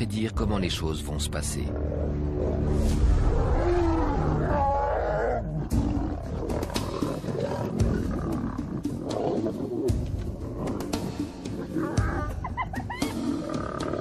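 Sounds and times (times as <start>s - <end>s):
lions growling: 1.7s - 12.4s, 13.0s - 14.0s.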